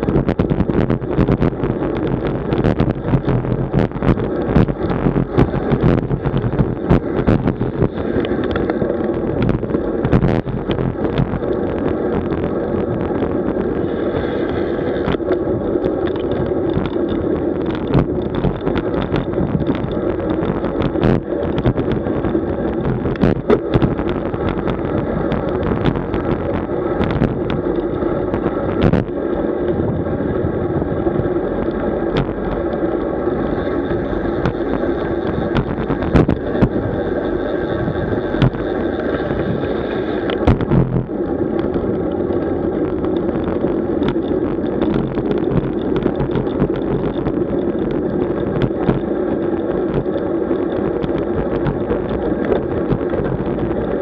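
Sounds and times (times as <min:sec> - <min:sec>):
bicycle tyres rumbling on road: 0:00.0 - 0:54.0
wind buffeting microphone: 0:00.0 - 0:54.0.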